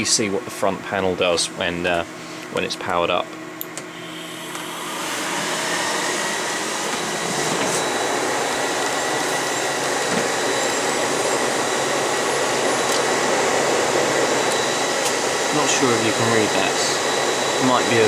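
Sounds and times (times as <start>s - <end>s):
server cooling fans: 0.0s - 18.0s
thin steady whine: 0.0s - 18.0s.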